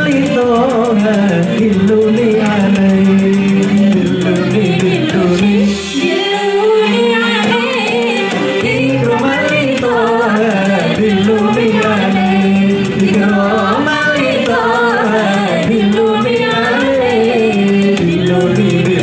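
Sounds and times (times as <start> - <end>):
quick ticking beat: 0.0 - 6.1, 7.4 - 19.0
amplified musical accompaniment: 0.0 - 19.0
woman singing into a microphone: 0.0 - 19.0.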